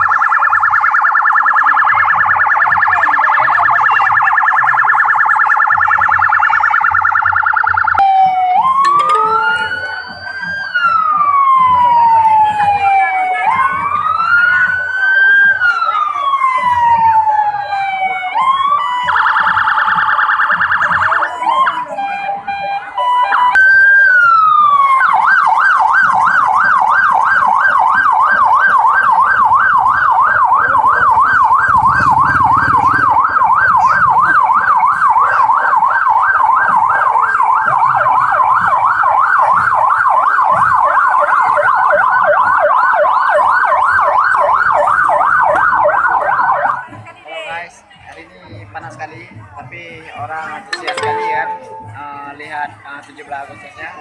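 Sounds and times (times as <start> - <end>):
electronic siren: 0.0 - 46.8.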